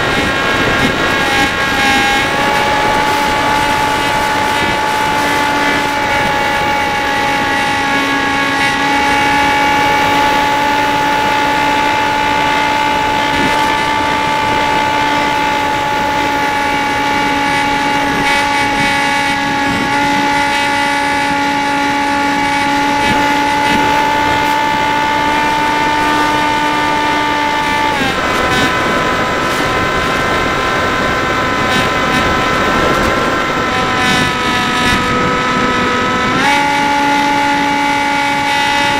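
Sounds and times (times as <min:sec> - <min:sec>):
model plane motor whine: 0:00.0 - 0:38.9.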